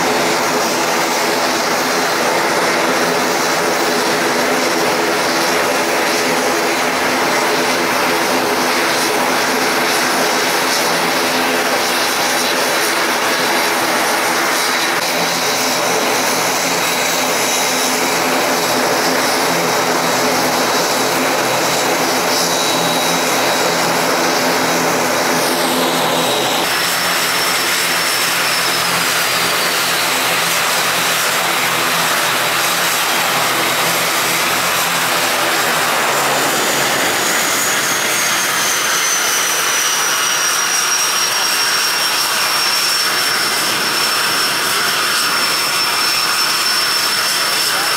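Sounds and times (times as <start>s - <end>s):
propeller drone: 0.0s - 47.9s
turbine whine: 0.0s - 47.9s.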